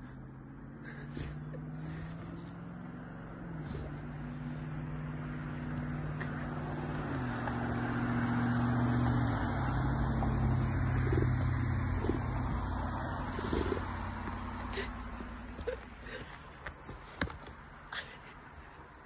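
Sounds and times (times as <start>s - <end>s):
vehicle engine running: 0.0s - 18.7s.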